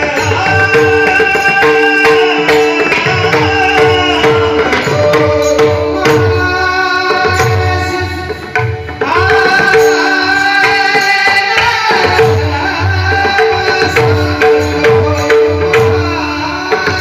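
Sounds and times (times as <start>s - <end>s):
man singing long high notes: 0.0s - 17.0s.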